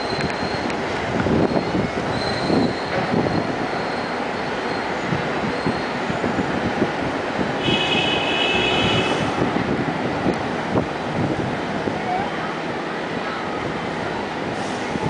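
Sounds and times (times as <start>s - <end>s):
metro train running noise: 0.0s - 15.0s.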